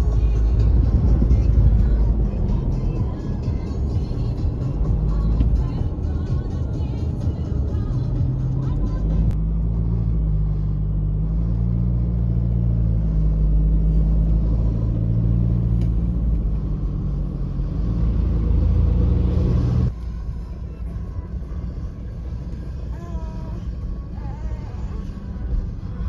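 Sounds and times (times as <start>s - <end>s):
engine and tyre rumble in tunnel: 0.0s - 26.0s.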